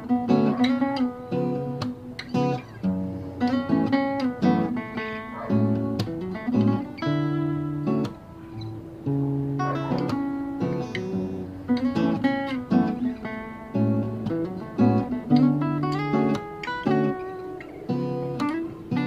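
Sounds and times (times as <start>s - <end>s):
two acoustic guitars playing: 0.0s - 19.0s.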